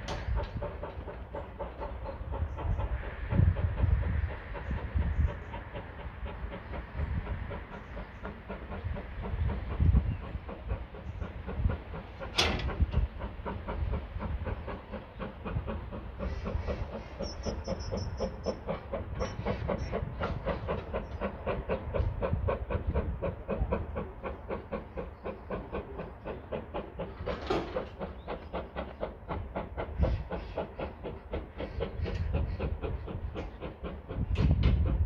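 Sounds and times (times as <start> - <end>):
steam locomotive chuffing: 0.0 - 35.0.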